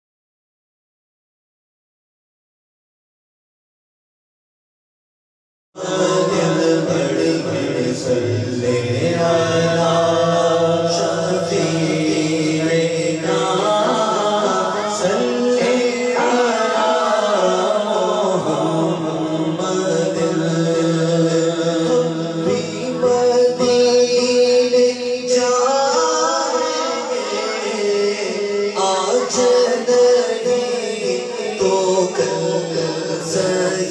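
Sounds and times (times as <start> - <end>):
men singing in chorus: 5.8 - 33.9.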